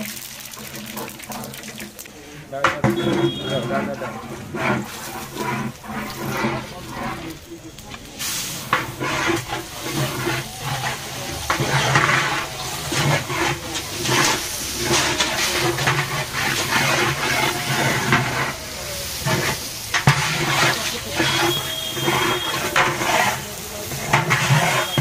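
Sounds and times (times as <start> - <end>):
oil sizzling in a pot: 0.0 - 25.0
metal spatula scraping a pot: 1.0 - 25.0.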